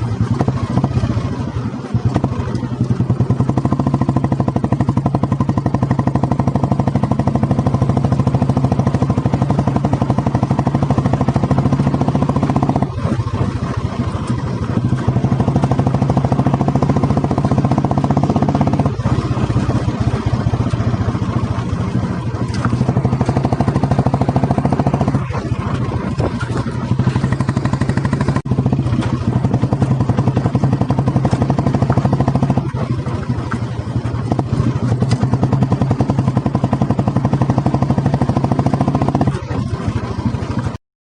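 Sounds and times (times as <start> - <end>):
single-cylinder motorcycle engine thumping: 0.0 - 40.8.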